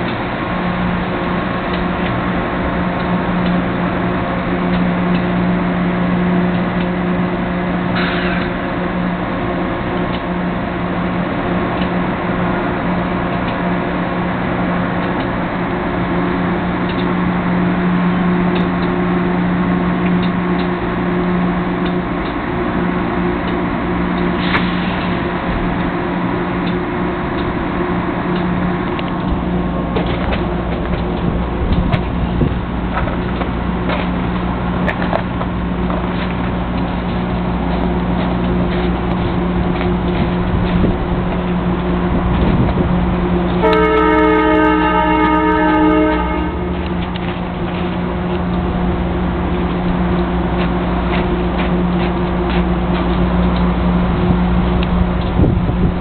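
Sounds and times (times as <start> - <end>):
electric locomotive humming: 0.0 - 56.0.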